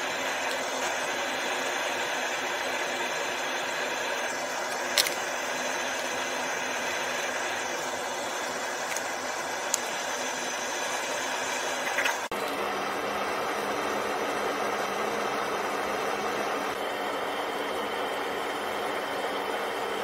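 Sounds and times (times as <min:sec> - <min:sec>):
extractor fan running: 0:00.0 - 0:20.0.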